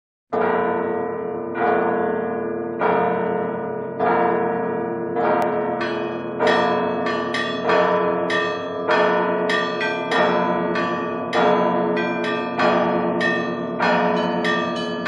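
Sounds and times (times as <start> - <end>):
church bells ringing: 0.4 - 15.0.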